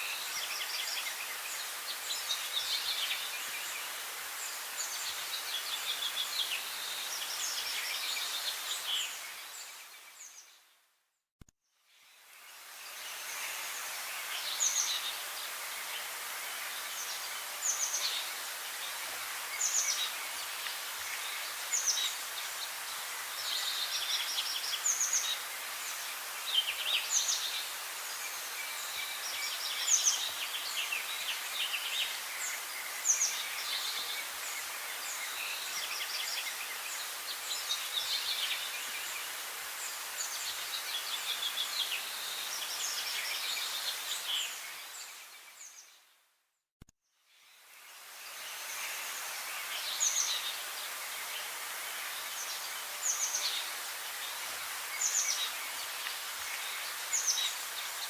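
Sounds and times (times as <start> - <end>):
steady background hiss: 0.0 - 10.5, 11.9 - 45.9, 47.4 - 58.0
songbirds singing: 0.0 - 10.8, 11.9 - 46.1, 47.3 - 58.0.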